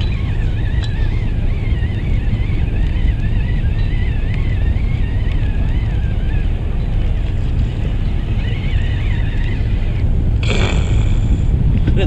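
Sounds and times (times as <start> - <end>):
fishing reel cranking whine: 0.0 - 11.4
boat engine rumble: 0.0 - 12.0
wind buffeting microphone: 0.0 - 12.0.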